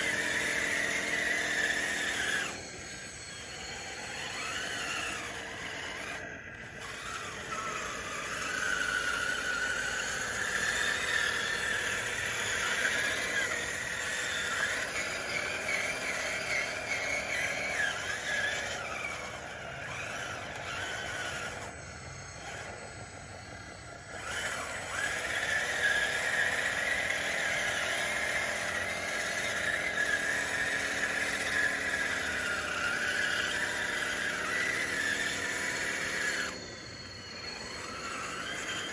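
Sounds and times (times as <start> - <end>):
toy bulldozer motors whining: 0.0 - 38.9.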